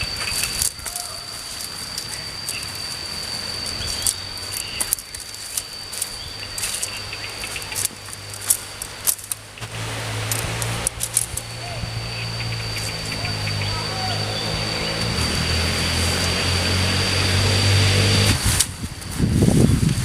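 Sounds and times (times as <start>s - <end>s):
high insect drone: 0.0s - 20.0s
low hum: 0.0s - 20.0s.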